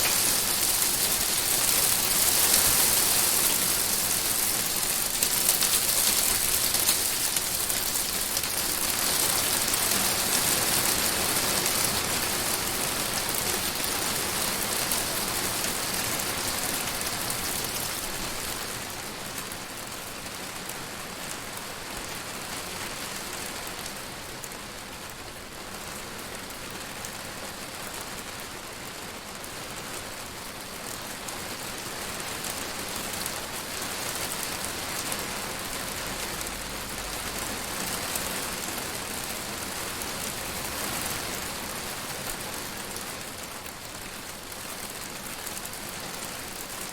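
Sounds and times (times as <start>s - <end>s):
hail and rain on greenhouse roof: 0.0s - 46.9s.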